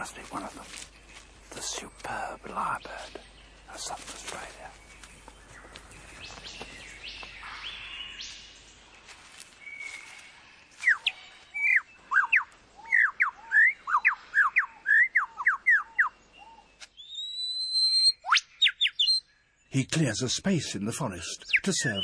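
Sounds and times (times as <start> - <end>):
lyrebird singing: 0.0 - 22.0.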